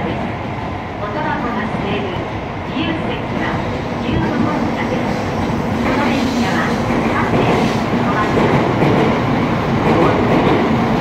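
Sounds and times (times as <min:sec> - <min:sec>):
train rushing rumble: 0:00.0 - 0:11.0.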